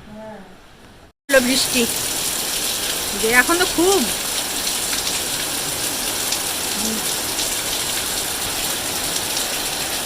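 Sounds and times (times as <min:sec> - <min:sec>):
heavy rain pouring: 0:01.3 - 0:10.0.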